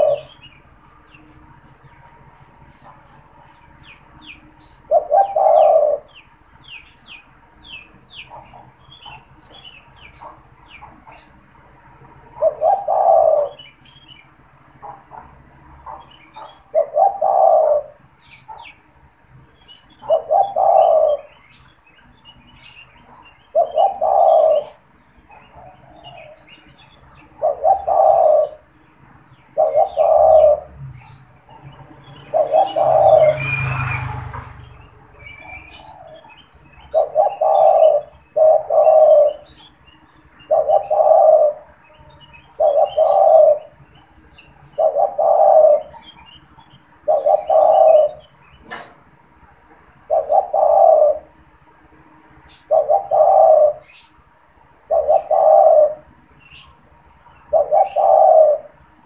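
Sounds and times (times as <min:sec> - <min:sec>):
dove cooing: 0:00.0 - 0:07.2, 0:12.0 - 0:18.8, 0:19.6 - 0:21.6, 0:22.4 - 0:28.7, 0:29.4 - 0:39.8, 0:40.4 - 0:49.0, 0:50.0 - 0:51.4, 0:52.5 - 0:54.2, 0:54.8 - 0:56.8, 0:57.5 - 0:59.0
small birds chirping faintly: 0:00.0 - 0:59.0.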